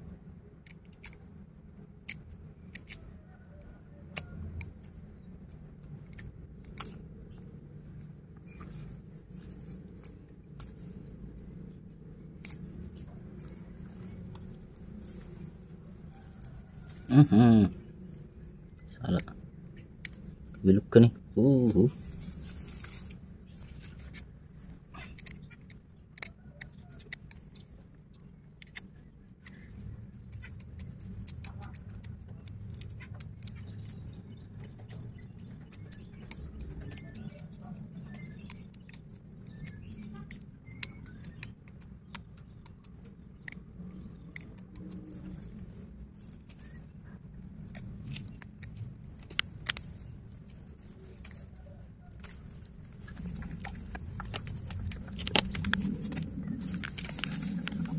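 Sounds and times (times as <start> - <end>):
steady low hum: 0.0 - 57.9
craft knife clicking and scraping: 0.6 - 20.6, 22.0 - 57.9.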